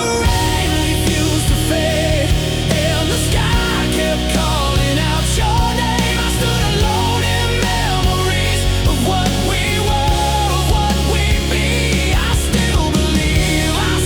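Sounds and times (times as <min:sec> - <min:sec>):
bass: 0:00.0 - 0:14.0
drums with cymbal hits: 0:00.0 - 0:14.0.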